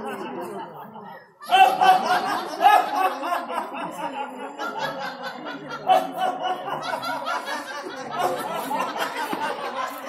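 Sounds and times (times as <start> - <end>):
people laughing and snickering: 0.0 - 10.0.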